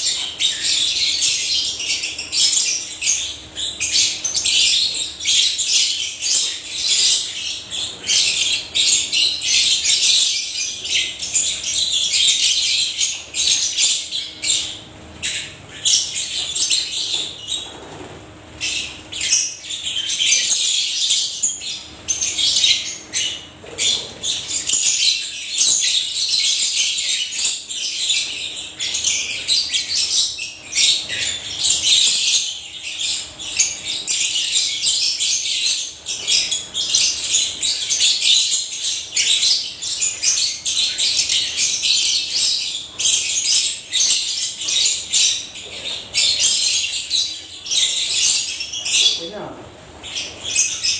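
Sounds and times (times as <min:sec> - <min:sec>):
birds chattering and chirping: 0:00.0 - 0:50.9.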